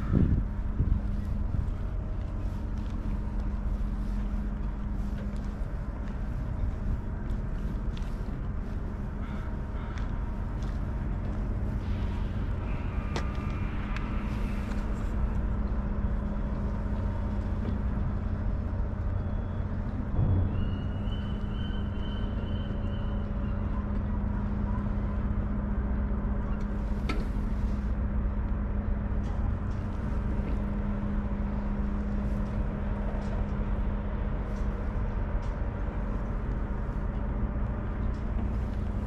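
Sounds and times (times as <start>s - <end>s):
engine idling hum: 0.0s - 39.0s.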